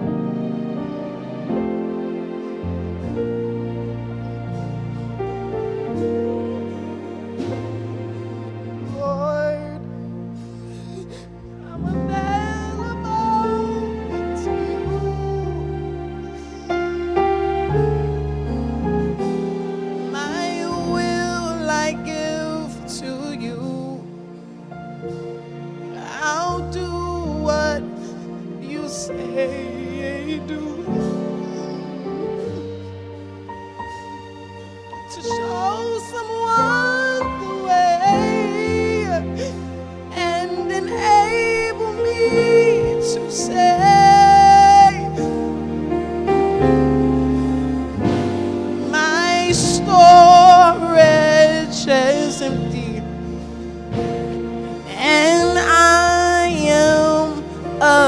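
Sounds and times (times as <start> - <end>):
sustained keyboard chords: 0.0 - 58.0.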